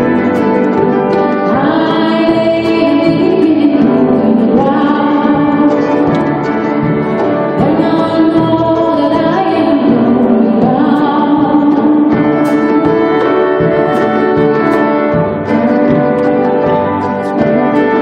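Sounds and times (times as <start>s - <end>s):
mandolin strumming: 0.0s - 18.0s
woman singing lead: 0.0s - 18.0s.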